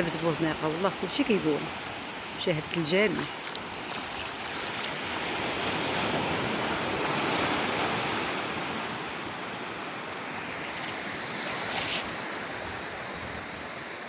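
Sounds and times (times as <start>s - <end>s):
waves breaking on beach: 0.0s - 14.0s.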